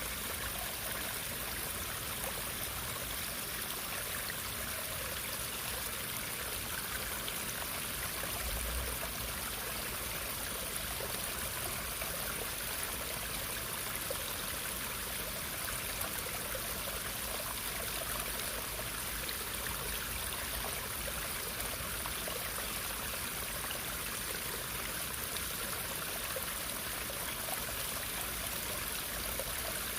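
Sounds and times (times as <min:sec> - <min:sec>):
running water: 0:00.0 - 0:29.9.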